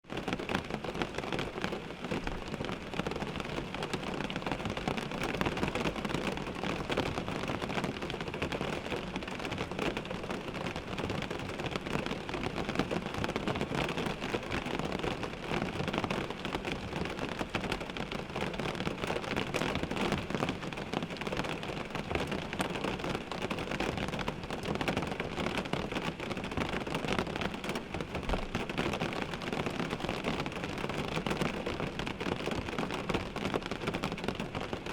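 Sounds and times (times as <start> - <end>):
rain on a windshield: 0.0 - 34.9.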